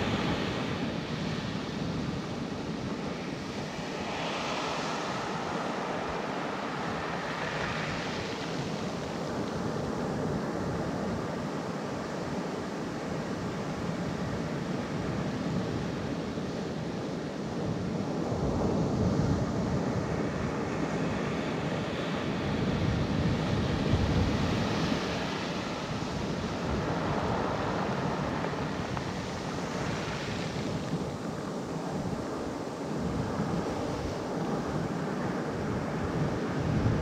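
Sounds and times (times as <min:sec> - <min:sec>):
surf over pebble beach: 0:00.0 - 0:37.0.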